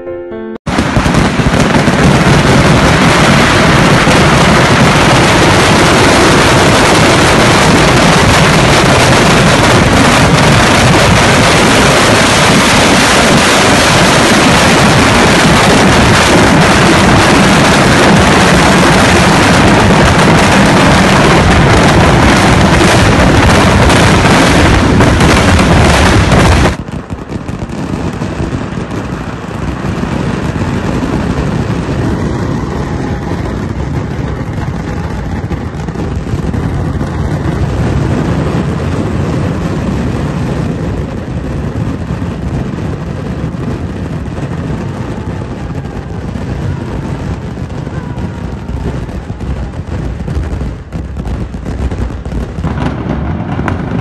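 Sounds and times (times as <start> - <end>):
firecrackers in rapid barrage: 0.7 - 54.0.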